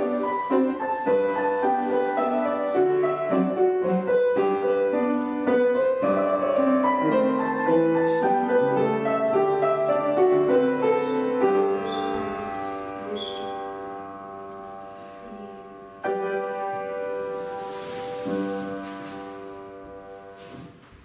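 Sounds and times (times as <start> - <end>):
classical piano piece: 0.0 - 21.0.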